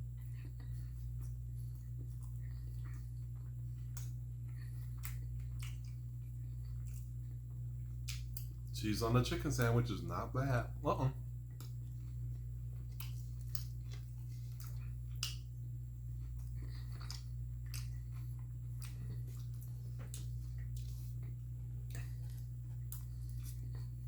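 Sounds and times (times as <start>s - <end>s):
chewing with wet clicks: 0.0s - 9.8s, 11.3s - 24.0s
steady low hum: 0.0s - 24.0s.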